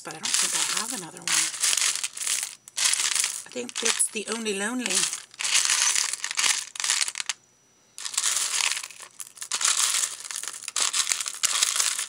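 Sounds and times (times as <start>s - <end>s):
plastic beads rattling in box: 0.0s - 7.4s, 8.0s - 12.0s.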